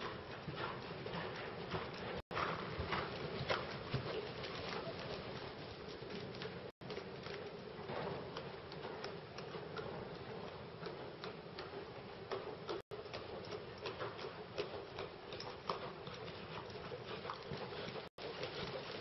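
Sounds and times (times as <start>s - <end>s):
horse hooves trotting on sand: 0.0s - 19.0s.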